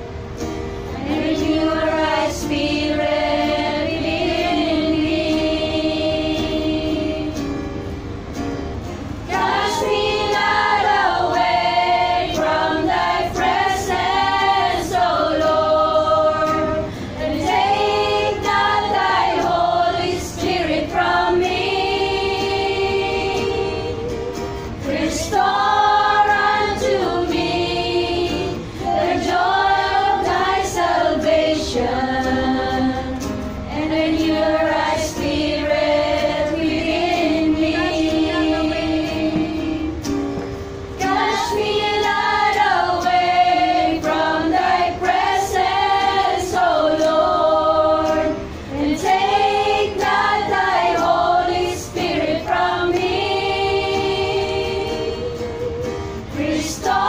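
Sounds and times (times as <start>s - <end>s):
acoustic guitar: 0.0s - 57.0s
women singing worship song: 0.9s - 7.8s, 9.2s - 57.0s.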